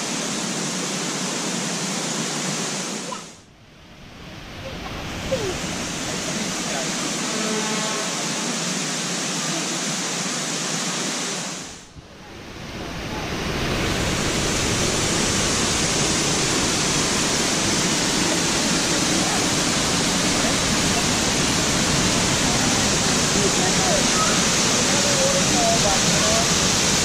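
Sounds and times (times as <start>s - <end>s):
waterfall rushing: 0.0s - 3.5s, 4.1s - 27.0s.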